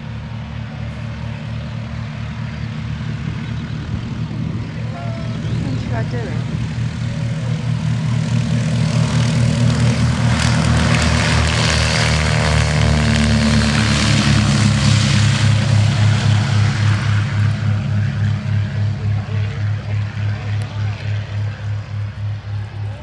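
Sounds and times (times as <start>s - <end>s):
biplane piston engines passing: 0.0s - 23.0s.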